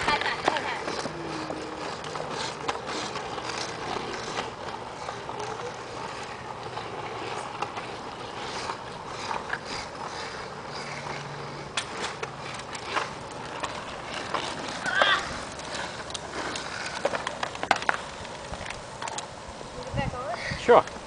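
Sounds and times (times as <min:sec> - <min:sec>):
wheels rolling over asphalt: 0:00.0 - 0:21.0.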